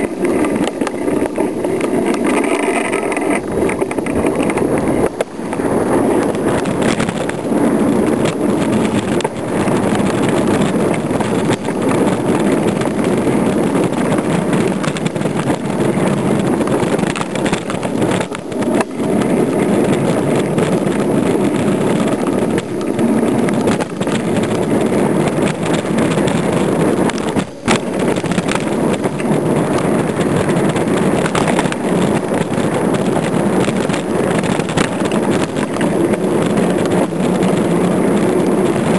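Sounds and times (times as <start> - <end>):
bike tyres rattling on rough ground: 0.0 - 38.9
wind rushing over microphone: 0.0 - 38.9.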